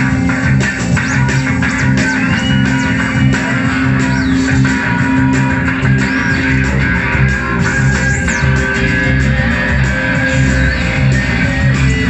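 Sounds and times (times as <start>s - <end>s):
electric guitars and bass: 0.0s - 12.0s.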